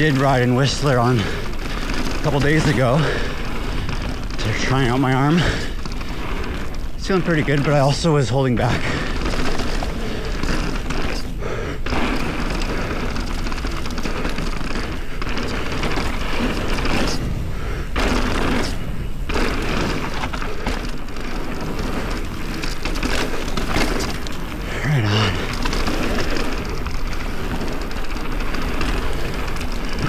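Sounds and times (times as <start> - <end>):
bike rattles and knocks: 0.0 - 30.0
bike tyre rumble: 0.0 - 30.0
wind buffeting microphone: 0.0 - 30.0.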